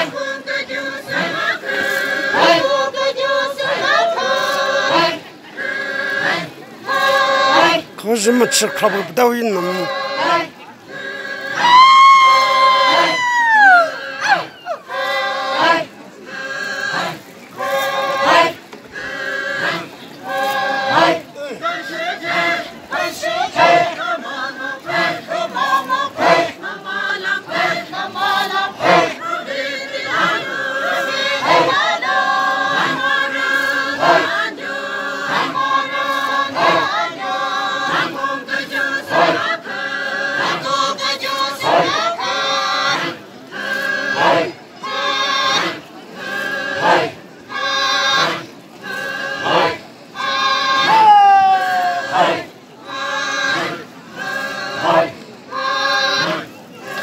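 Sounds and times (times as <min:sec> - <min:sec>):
group of voices chanting: 0:00.0 - 0:57.0.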